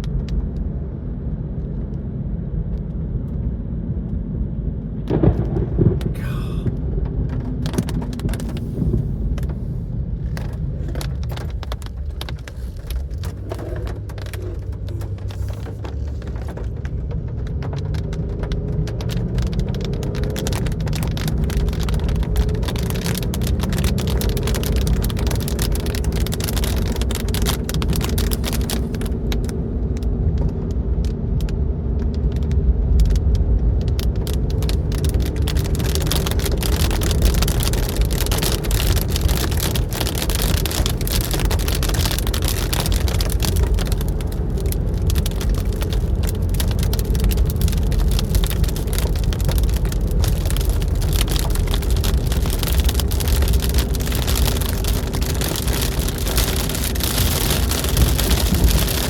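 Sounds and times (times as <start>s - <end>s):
rain pattering on car: 0.0s - 4.3s, 4.9s - 59.0s
road and engine rumble: 0.0s - 59.0s.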